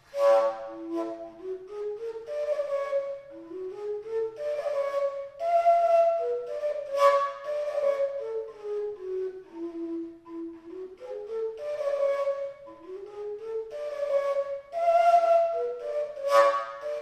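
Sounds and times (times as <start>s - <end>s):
overtone flute playing folk melody: 0.0s - 17.0s.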